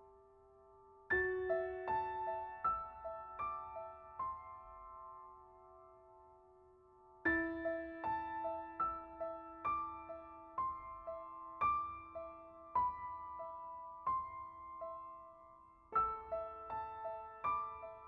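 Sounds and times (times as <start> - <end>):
soft solo piano: 0.0 - 18.0.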